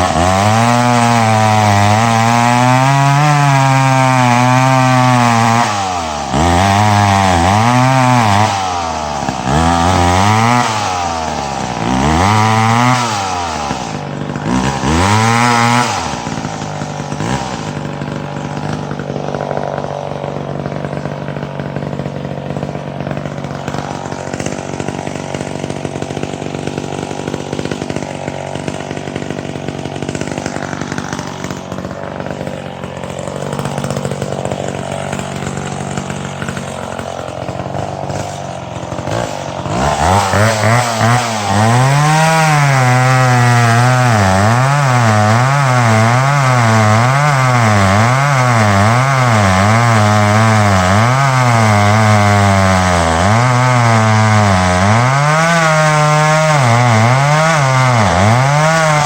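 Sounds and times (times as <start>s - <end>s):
chainsaw idling: 0.0s - 59.0s
chainsaw revving: 0.0s - 59.0s.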